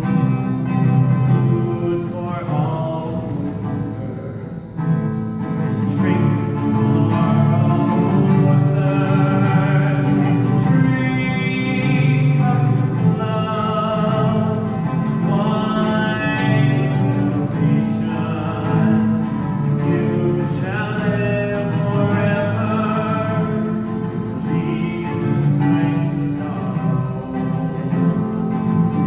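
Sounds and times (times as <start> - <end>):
acoustic guitar accompaniment: 0.0 - 29.0
man singing a hymn: 0.9 - 4.5, 5.7 - 28.1.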